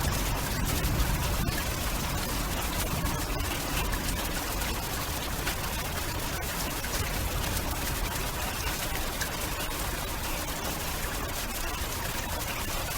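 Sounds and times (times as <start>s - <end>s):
steady rain falling: 0.0s - 12.7s.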